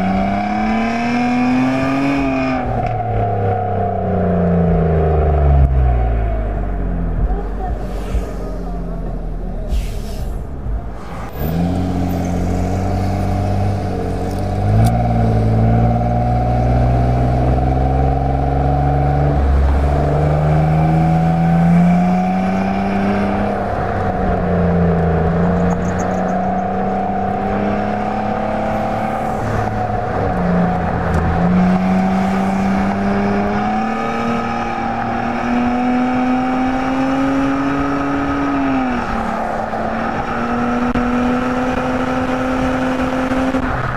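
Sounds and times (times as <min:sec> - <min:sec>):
car exhaust revving: 0:00.0 - 0:43.9.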